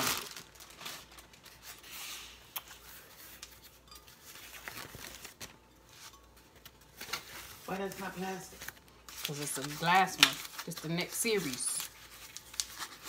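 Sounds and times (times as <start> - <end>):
packaging rustling: 0.0 - 2.0, 2.7 - 13.0.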